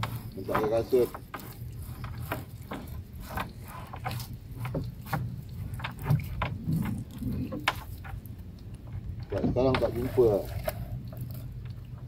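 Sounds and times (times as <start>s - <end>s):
knocks and scrapes on hull: 0.0s - 12.0s
low steady rumble: 0.0s - 12.0s.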